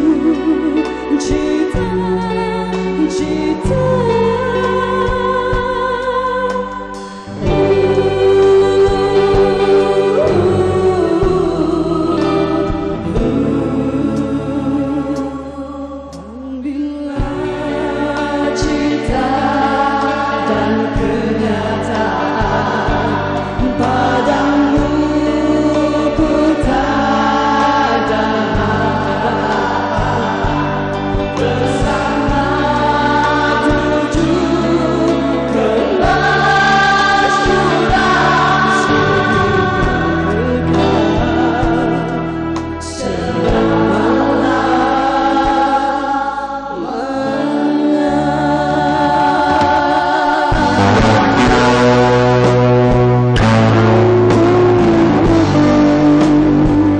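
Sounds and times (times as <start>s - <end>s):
amplified backing music: 0.0s - 56.9s
bass line: 0.0s - 56.9s
group singing pop song: 0.0s - 56.9s.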